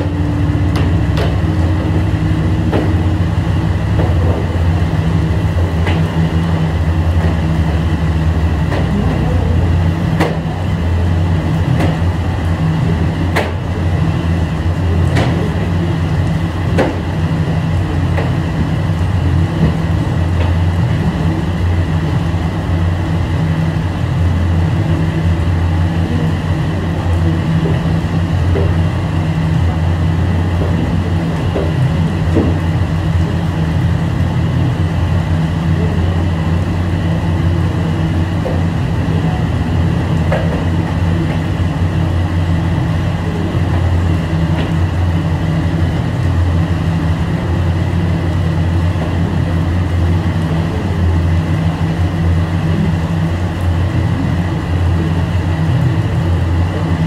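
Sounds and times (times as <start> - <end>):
low mechanical drone: 0.0 - 57.0.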